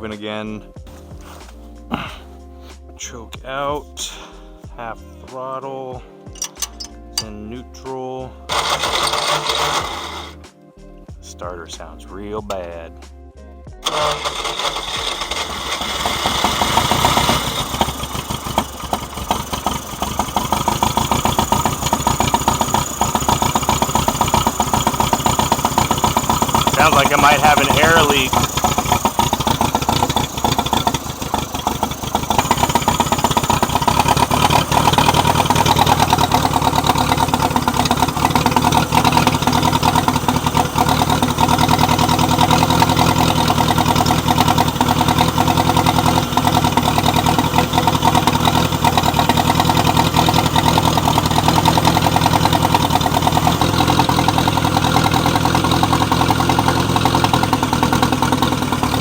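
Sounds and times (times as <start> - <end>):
tractor engine running: 6.3 - 7.4, 8.5 - 10.4, 13.8 - 59.0.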